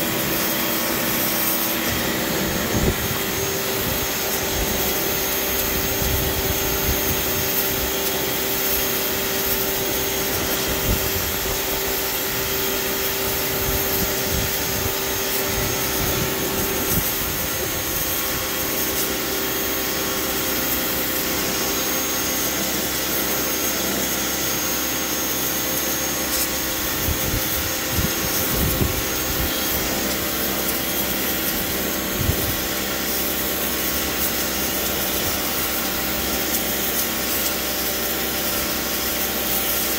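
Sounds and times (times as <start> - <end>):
pressure washer spraying: 0.0 - 39.9
steady hum: 0.0 - 39.9.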